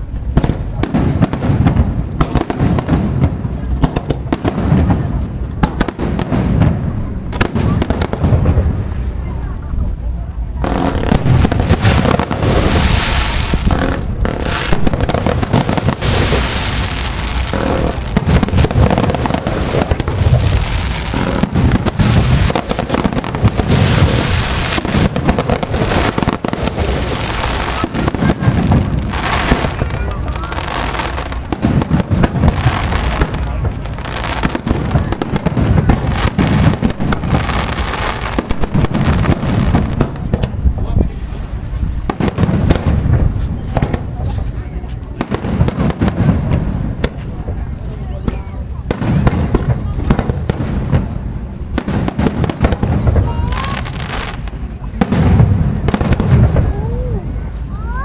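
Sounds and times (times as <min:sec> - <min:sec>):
fireworks bursts and crackles: 0:00.0 - 0:58.0.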